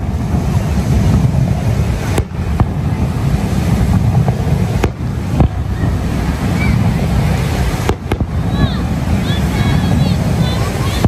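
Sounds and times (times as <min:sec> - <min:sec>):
fireworks bursting: 0:00.0 - 0:11.0
wind rumbling on microphone: 0:00.0 - 0:11.0.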